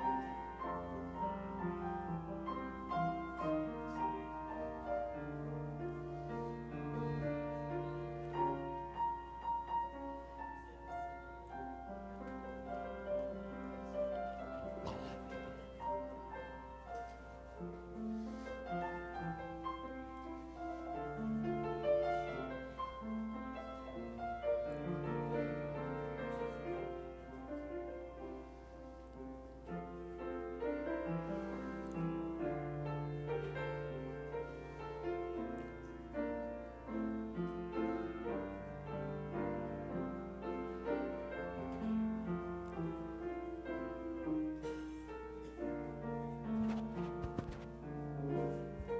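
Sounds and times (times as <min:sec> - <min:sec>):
slow piano music: 0:00.0 - 0:48.9.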